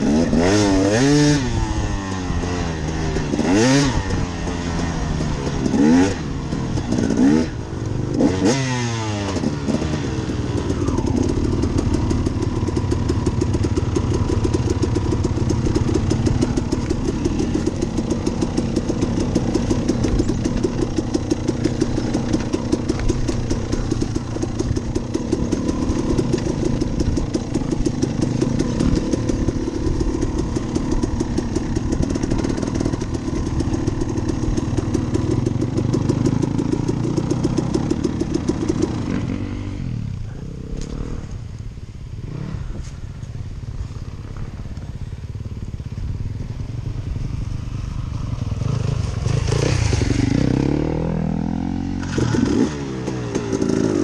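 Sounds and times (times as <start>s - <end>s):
two-stroke dirt bike engine: 0.0s - 54.0s.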